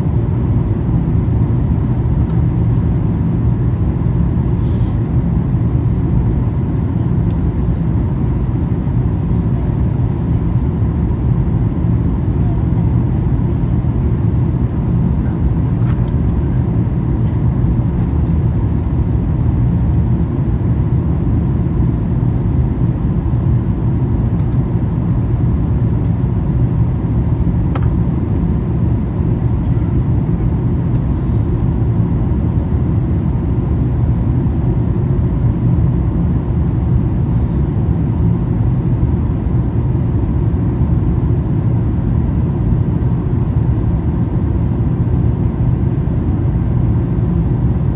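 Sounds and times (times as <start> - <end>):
airplane cabin rumble: 0.0 - 47.9
faint steady whine: 0.0 - 47.9.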